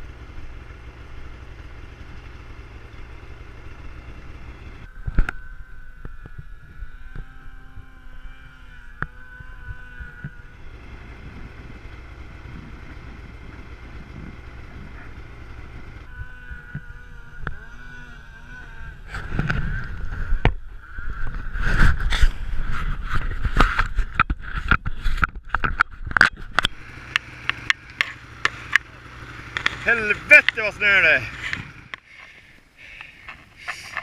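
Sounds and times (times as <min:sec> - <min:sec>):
snowmobile engine running: 0:00.0 - 0:34.0.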